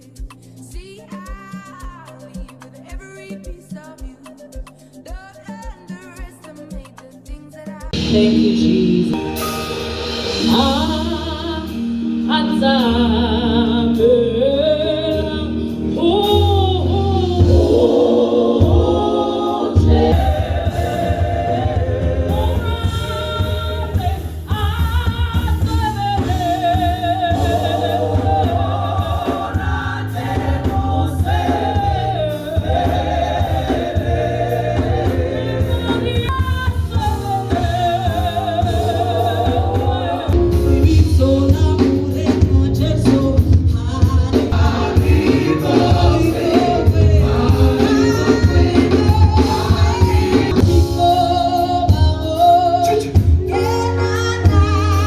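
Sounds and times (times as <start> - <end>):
choir singing gospel: 0.1 - 55.0.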